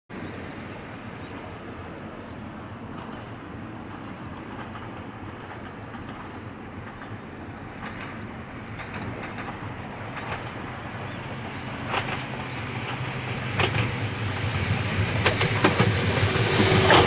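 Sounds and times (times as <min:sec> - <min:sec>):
distant train rumble: 0:00.1 - 0:17.0.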